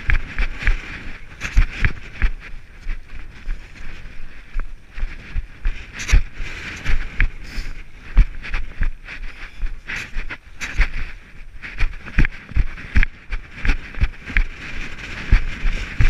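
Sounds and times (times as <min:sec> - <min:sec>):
footsteps on rocky path: 0:00.0 - 0:16.0
gear jostling against camera: 0:00.0 - 0:16.0.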